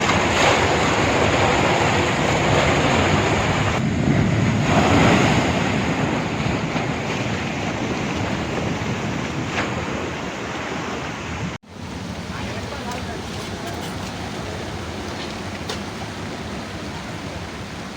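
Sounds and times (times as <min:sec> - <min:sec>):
rough sea waves surging: 0:00.0 - 0:17.9
wind buffeting microphone: 0:00.0 - 0:17.9.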